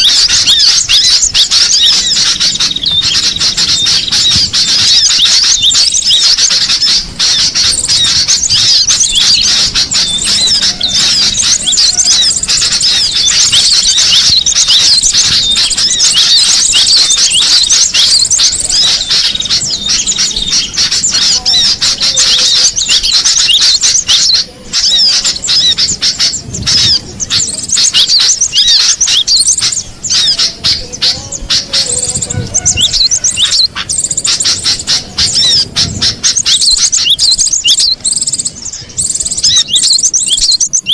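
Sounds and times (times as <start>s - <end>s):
bird singing high chirps: 0.0s - 40.9s.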